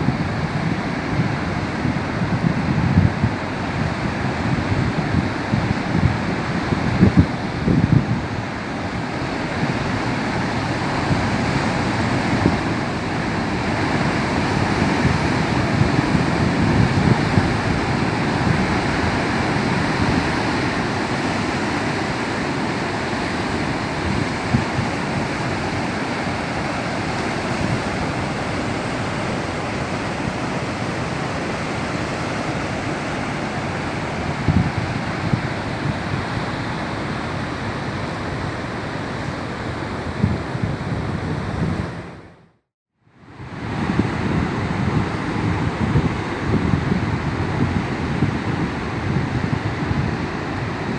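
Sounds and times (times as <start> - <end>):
surf breaking on shore: 0.0 - 42.3, 43.3 - 50.9.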